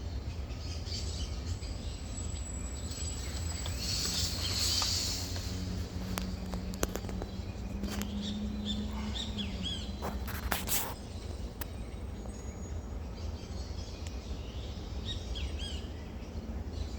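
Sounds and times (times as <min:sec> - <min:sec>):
songbirds chirping: 0:00.0 - 0:16.9.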